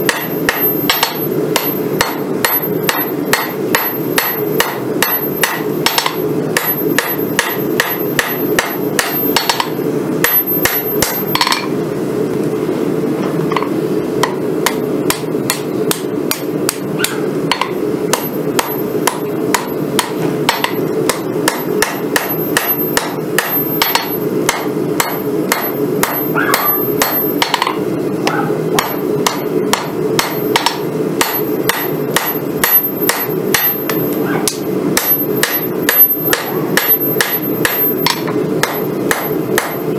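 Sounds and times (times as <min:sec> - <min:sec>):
hammer striking metal on anvil: 0:00.0 - 0:11.8, 0:13.5 - 0:39.9
constant hum: 0:00.0 - 0:39.9.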